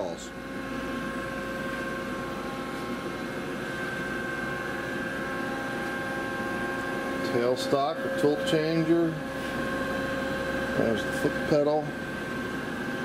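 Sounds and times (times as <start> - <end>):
steady whining tones: 0.0 - 13.0
lathe humming: 0.3 - 13.0.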